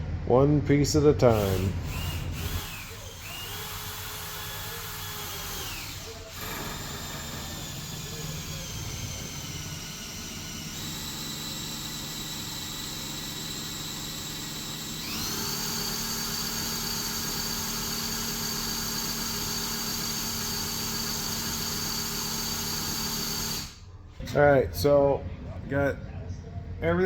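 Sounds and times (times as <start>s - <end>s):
power tool motor whining: 1.3s - 23.9s.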